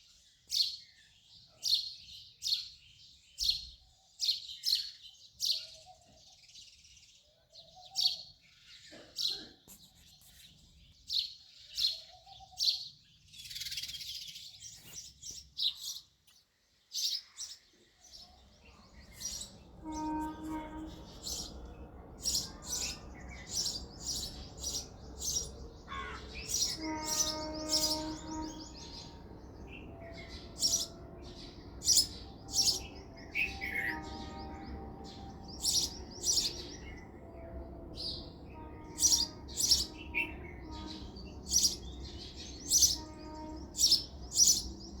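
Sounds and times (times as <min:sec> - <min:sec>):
sparrows chirping: 0:00.0 - 0:45.0.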